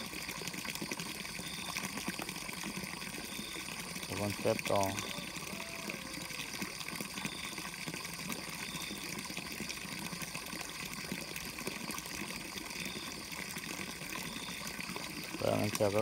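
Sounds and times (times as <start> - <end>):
water pouring into pond: 0.0 - 16.0.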